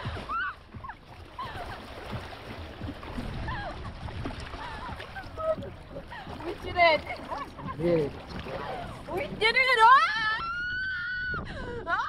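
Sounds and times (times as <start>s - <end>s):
water rushing against boat: 0.0s - 12.0s
wind: 0.0s - 12.0s.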